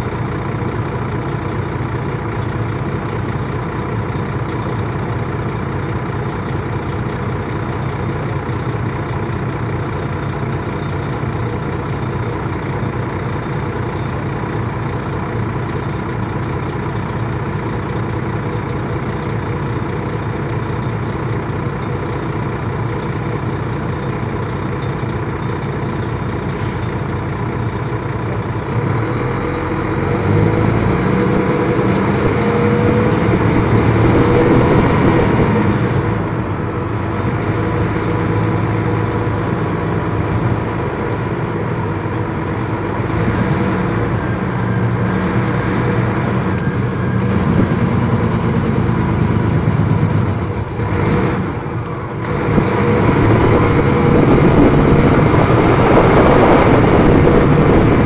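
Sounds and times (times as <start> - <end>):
coach engine running: 0.0 - 58.0.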